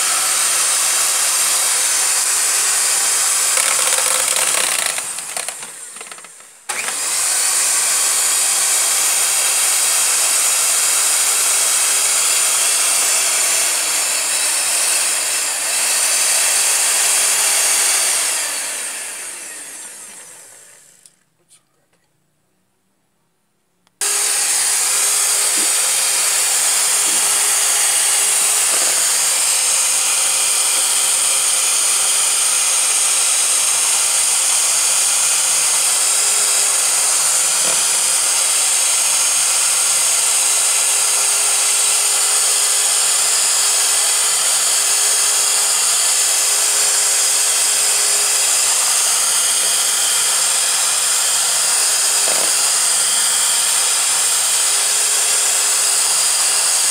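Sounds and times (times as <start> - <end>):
electric mixer whirring: 0.0 - 21.1, 24.0 - 56.9.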